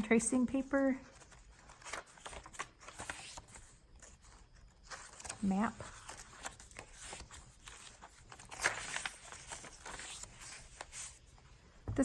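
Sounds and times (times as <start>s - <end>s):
paper pages rustling: 0.9s - 11.4s.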